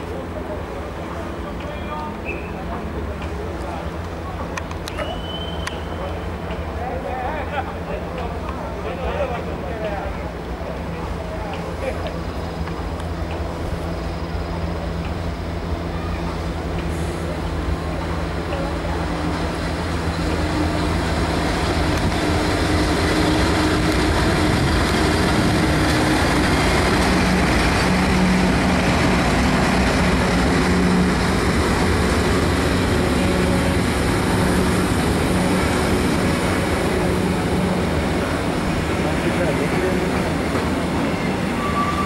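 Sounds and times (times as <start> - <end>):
electric locomotive hum: 0.0 - 42.0
wheels rumbling on rail: 0.0 - 42.0.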